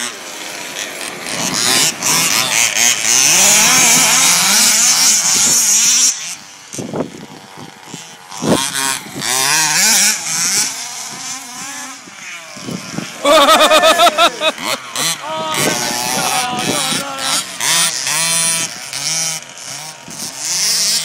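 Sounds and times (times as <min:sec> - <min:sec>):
rc car engines revving: 0:00.0 - 0:21.0.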